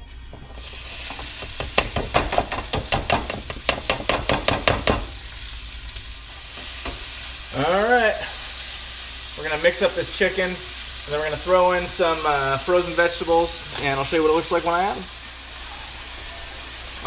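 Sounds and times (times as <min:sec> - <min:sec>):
chicken sizzling in frying pan: 0:00.5 - 0:17.0.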